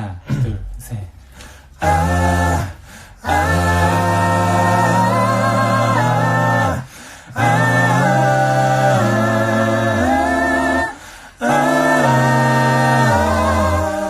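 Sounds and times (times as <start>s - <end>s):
a cappella group singing: 1.3s - 14.0s.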